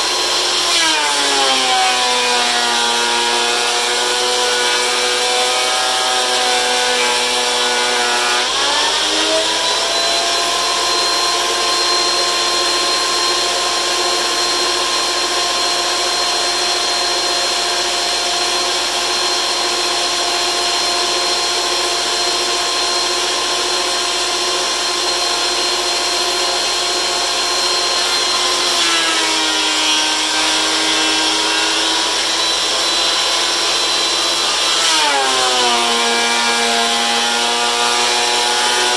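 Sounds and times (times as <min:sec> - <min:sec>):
thickness planer whining: 0:00.0 - 0:38.9.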